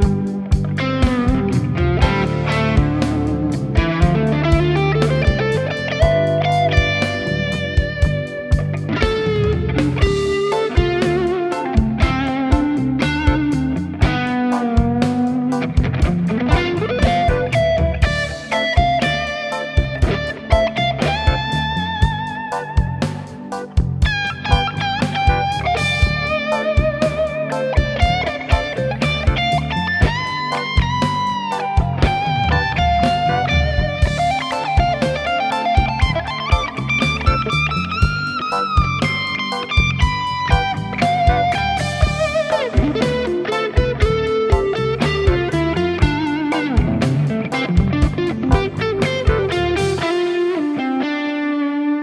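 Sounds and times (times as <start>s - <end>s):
bass line: 0.0s - 50.2s
drum beat: 0.0s - 50.2s
electric guitar lead: 0.0s - 52.0s.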